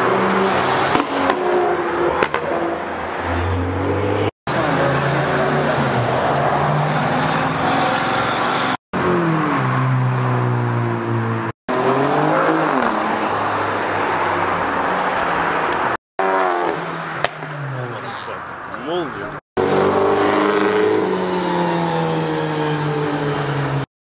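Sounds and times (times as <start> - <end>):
cars driving past revving: 0.0 - 23.9.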